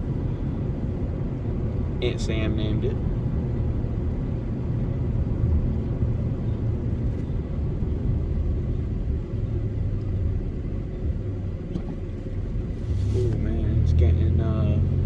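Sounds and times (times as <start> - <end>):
truck engine rumble: 0.0 - 15.0
tyres on the road: 0.0 - 15.0.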